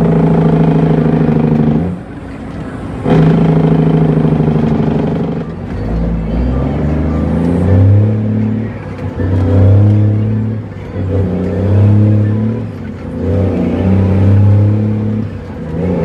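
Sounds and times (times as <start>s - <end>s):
diesel truck engine accelerating: 0.0s - 16.0s.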